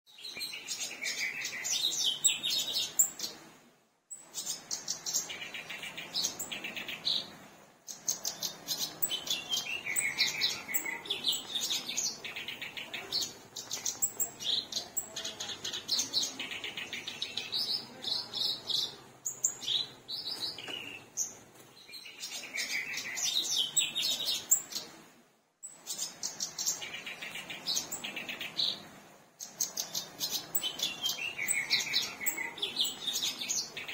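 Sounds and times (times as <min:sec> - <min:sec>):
warbler singing: 0:00.1 - 0:03.5, 0:04.1 - 0:25.0, 0:25.6 - 0:33.9.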